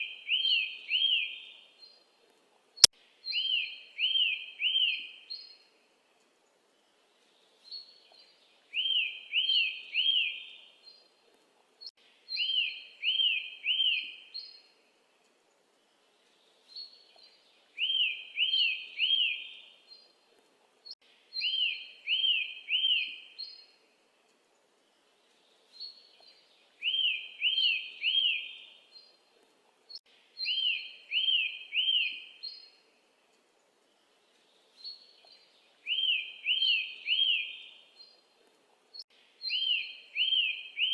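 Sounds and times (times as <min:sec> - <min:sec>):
faint steady hiss: 0:05.0 - 0:40.9.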